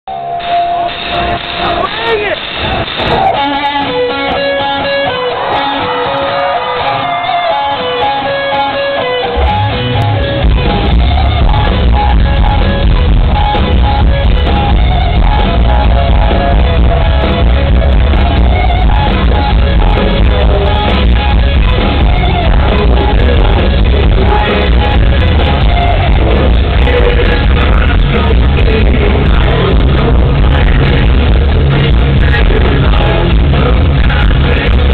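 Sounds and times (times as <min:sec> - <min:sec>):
electric guitar riff: 0:00.1 - 0:34.9
hard rock band playing: 0:00.1 - 0:34.9.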